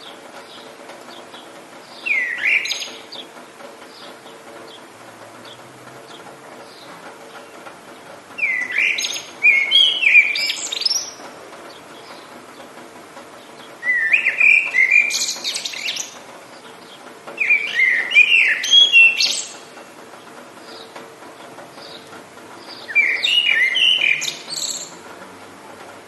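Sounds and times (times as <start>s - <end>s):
songbird singing: 0.0s - 25.2s
steady background hiss: 0.0s - 26.0s.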